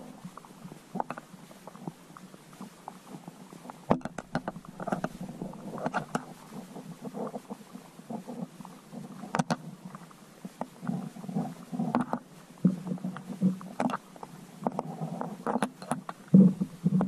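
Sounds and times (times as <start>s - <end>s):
muffled underwater rumbling: 0.0s - 17.0s.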